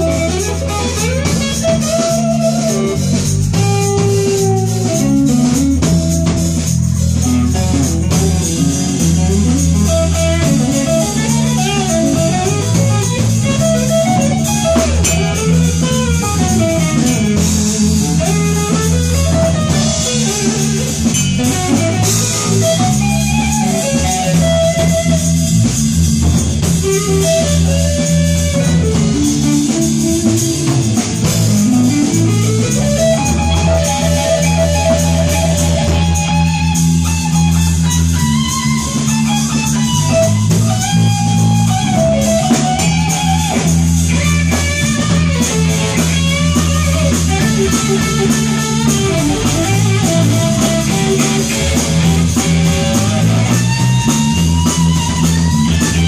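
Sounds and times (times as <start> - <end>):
lead guitar line: 0.0 - 56.0
live rock band playing: 0.0 - 56.0.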